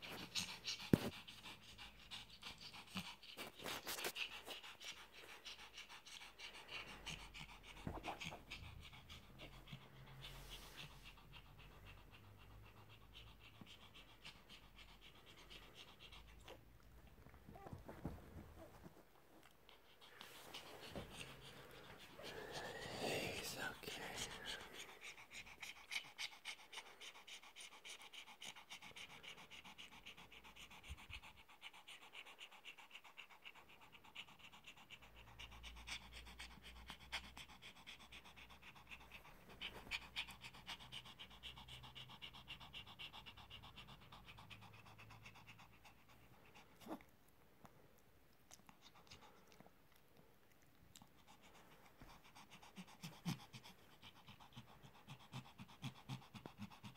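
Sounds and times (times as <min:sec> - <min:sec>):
dog panting: 0:00.0 - 0:47.1, 0:47.7 - 0:56.9.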